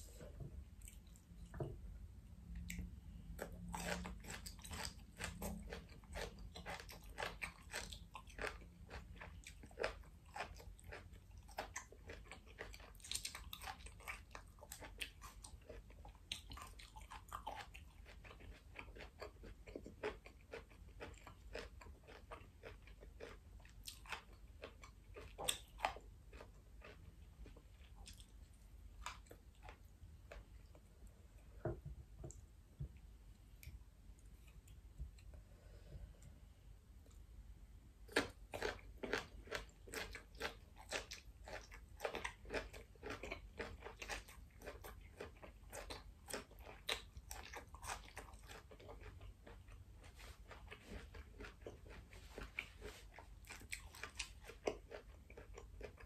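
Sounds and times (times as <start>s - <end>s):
crunching and chewing food: 0.0s - 32.4s, 38.0s - 56.0s.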